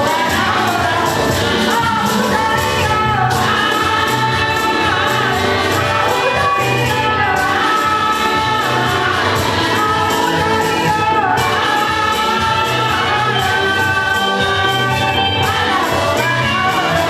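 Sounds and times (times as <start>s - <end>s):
choir singing a hymn: 0.0s - 17.0s
musical accompaniment: 0.0s - 17.0s.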